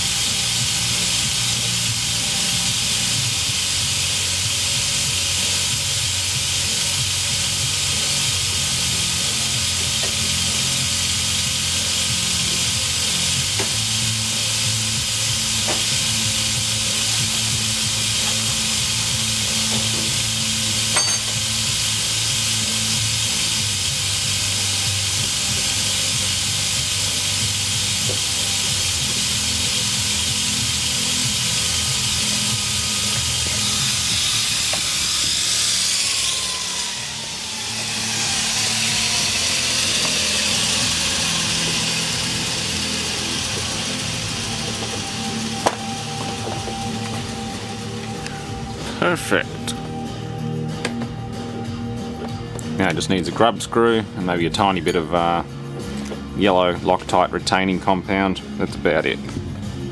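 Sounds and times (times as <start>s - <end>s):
machinery hiss: 0.0s - 57.1s
low machinery hum: 0.0s - 59.9s.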